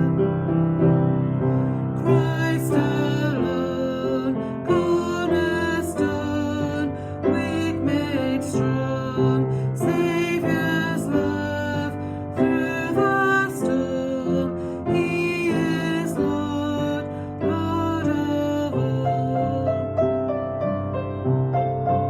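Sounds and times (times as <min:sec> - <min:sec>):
voices singing worship song: 0:02.0 - 0:19.8.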